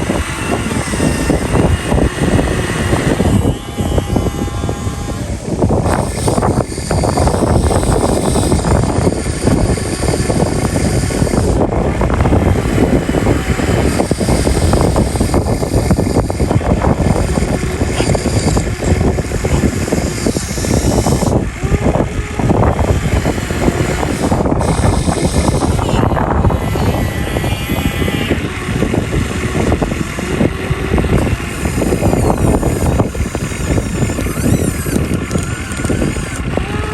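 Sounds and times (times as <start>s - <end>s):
excavator engine crackling: 0.0s - 36.9s.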